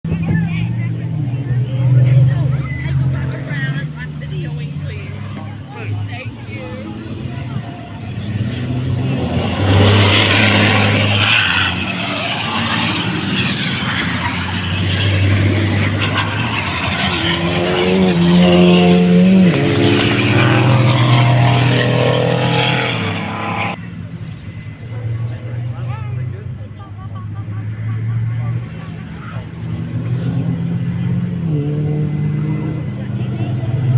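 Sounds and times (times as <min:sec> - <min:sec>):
racing truck engines: 0:00.0 - 0:33.9.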